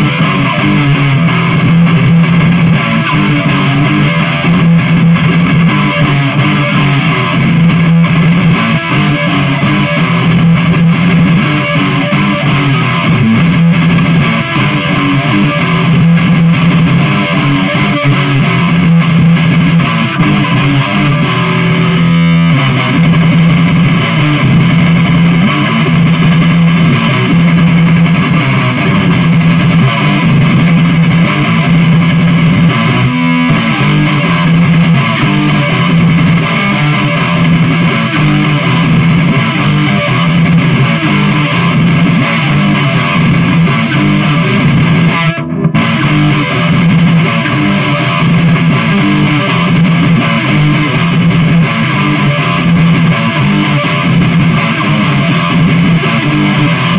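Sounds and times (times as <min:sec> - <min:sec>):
distorted electric guitar music: 0:00.0 - 0:56.9.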